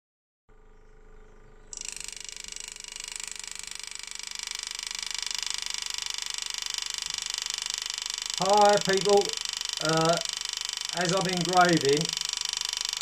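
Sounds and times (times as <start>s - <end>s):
engraving tool buzzing on metal: 1.6s - 13.0s.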